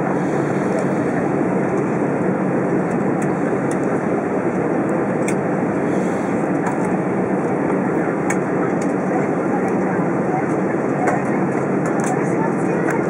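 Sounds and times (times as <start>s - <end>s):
air conditioning: 0.0s - 13.0s
jet engines at low power: 0.0s - 13.0s.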